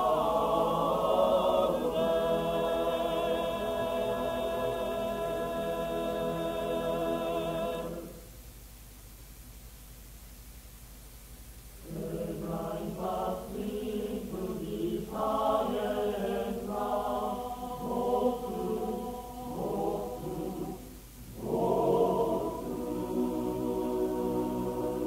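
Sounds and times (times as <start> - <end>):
male choir singing: 0.0 - 8.2, 11.9 - 25.0.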